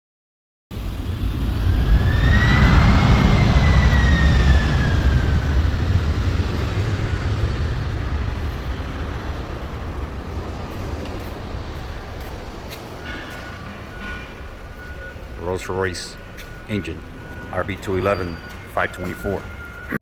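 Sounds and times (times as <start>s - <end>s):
jet engine rumble and whine: 0.7s - 20.0s.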